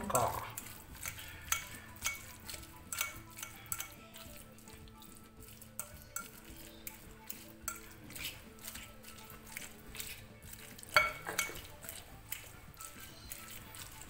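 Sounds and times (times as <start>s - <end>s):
faint background music: 0.0s - 14.0s
fork scraping: 0.4s - 14.0s
fork clinking on glass bowl: 0.6s - 14.0s.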